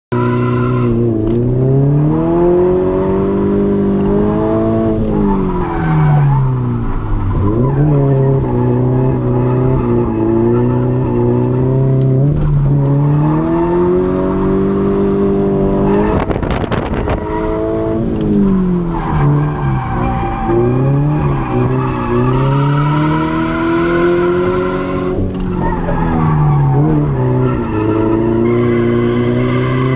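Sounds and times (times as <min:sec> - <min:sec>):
car engine revving: 0:00.1 - 0:29.9.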